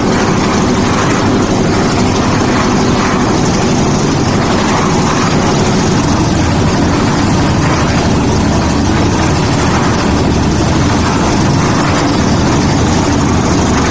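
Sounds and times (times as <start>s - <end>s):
concrete mixer running: 0.0s - 13.9s.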